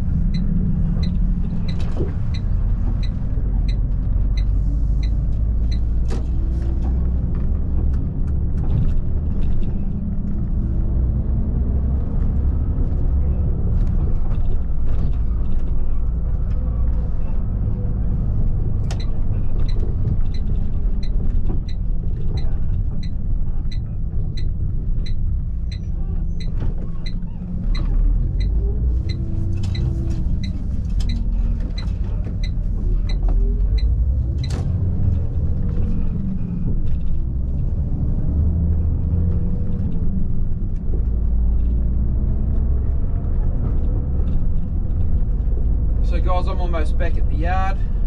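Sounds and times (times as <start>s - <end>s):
diesel engine rumbling: 0.0s - 48.0s.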